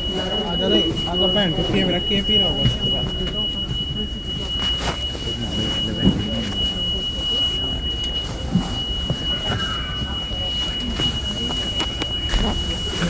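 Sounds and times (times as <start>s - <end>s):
high-pitched electronic alarm tone: 0.0s - 13.0s
subway train rumble: 0.0s - 13.0s.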